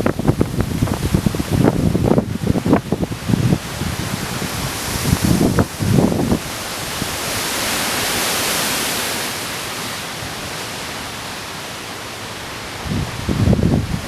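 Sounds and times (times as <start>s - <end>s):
wind gusting through trees: 0.0s - 14.0s.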